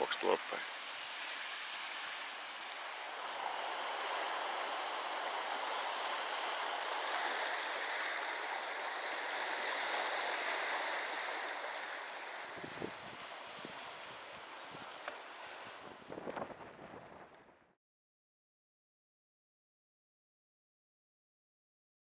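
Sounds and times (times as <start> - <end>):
rushing seashore ambience: 0.0 - 17.7.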